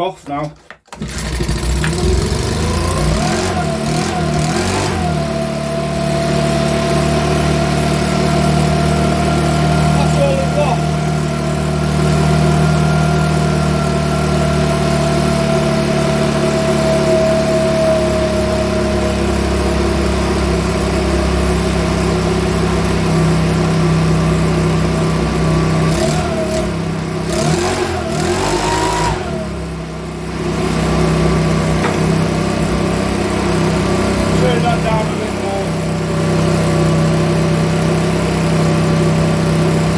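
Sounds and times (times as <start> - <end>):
leaf blower engine running: 0.9 - 39.9.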